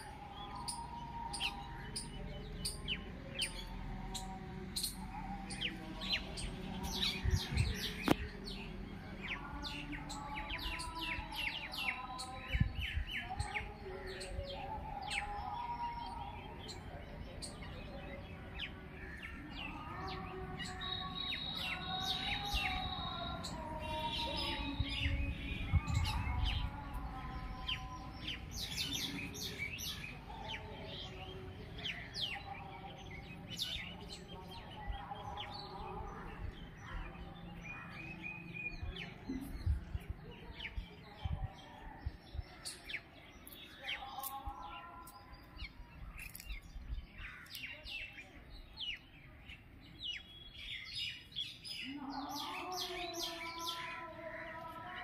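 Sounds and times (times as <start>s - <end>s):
birds chirping: 0.0s - 55.0s
birds warbling: 0.0s - 55.0s.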